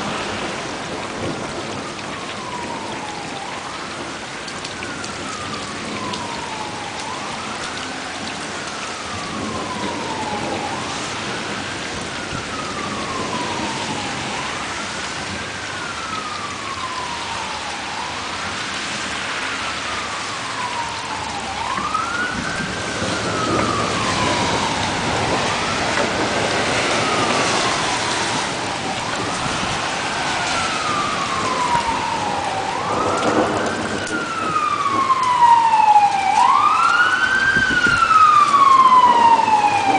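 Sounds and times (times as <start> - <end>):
steady rain: 0.0 - 39.9
wailing emergency siren: 0.0 - 39.9.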